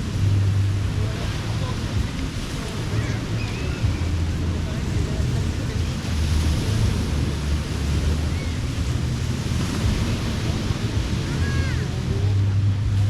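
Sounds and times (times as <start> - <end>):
ocean surf on beach: 0.0 - 13.0
wind buffeting microphone: 0.0 - 13.0.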